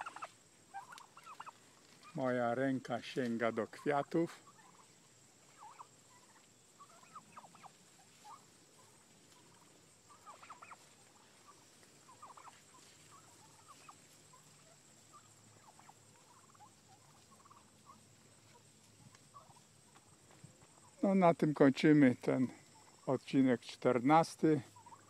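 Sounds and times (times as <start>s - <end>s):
distant bird calls: 0.0s - 2.2s, 3.4s - 21.1s, 24.6s - 25.0s.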